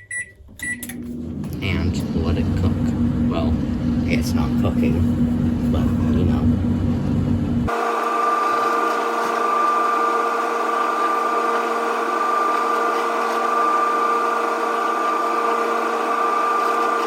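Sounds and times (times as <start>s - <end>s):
microwave fan motor whirring: 0.0s - 17.0s.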